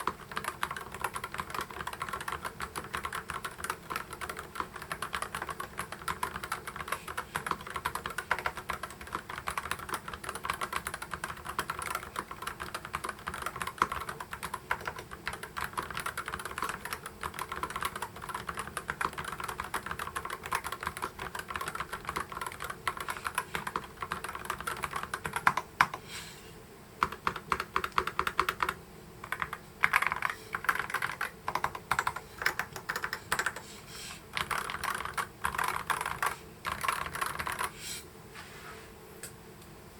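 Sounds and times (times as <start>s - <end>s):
keyboard typing: 0.0s - 26.0s, 27.0s - 33.7s, 34.3s - 37.8s.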